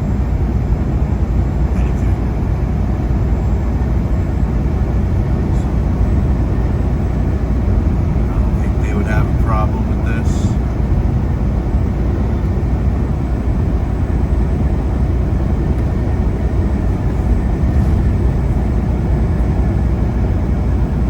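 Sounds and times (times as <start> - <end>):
road noise: 0.0 - 21.0
truck engine rumble: 0.0 - 21.0.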